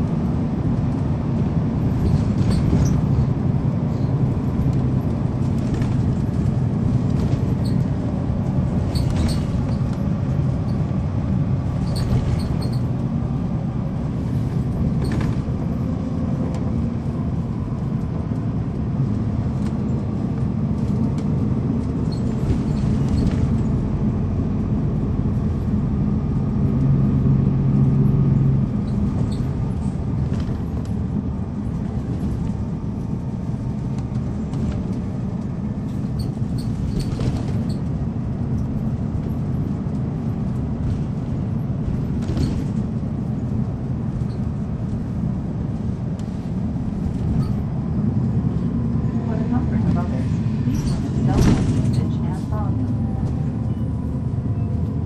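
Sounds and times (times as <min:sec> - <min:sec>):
bus diesel engine rumble: 0:00.0 - 0:55.0.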